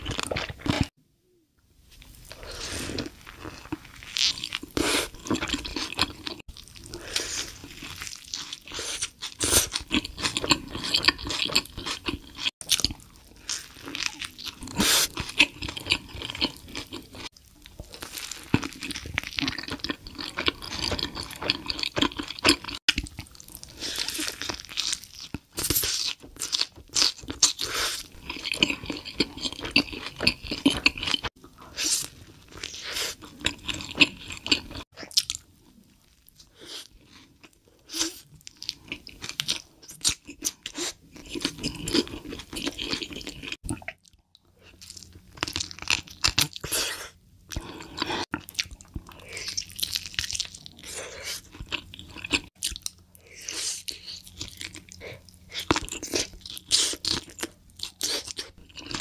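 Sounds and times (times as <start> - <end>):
crisp chewing crunches: 2.2 - 59.0.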